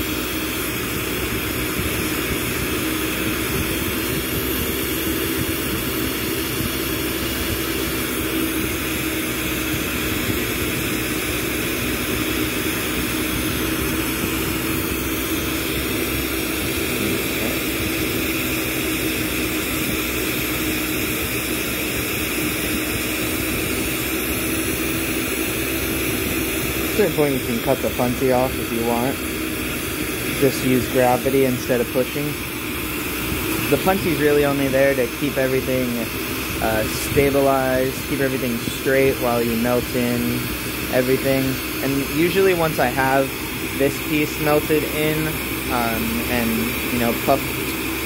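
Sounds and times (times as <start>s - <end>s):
fan running: 0.0s - 48.0s
torch flame roaring: 0.0s - 48.0s.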